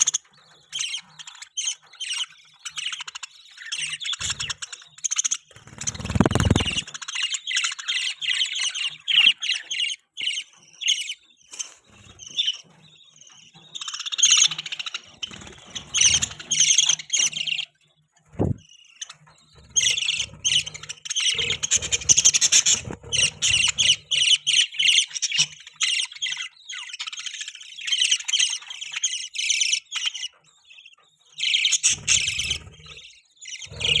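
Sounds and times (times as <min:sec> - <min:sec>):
budgerigars chirping: 0:00.0 - 0:34.0.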